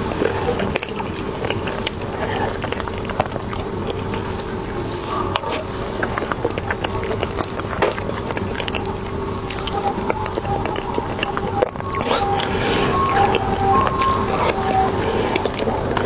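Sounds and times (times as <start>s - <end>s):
person chewing with mouth clicks: 0.0s - 16.0s
steady background hum: 0.0s - 16.0s.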